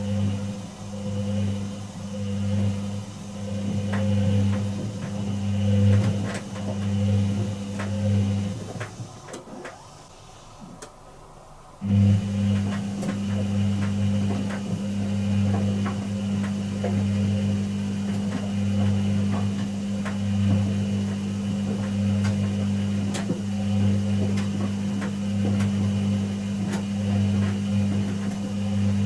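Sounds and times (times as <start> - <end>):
washing machine humming: 0.0 - 29.0.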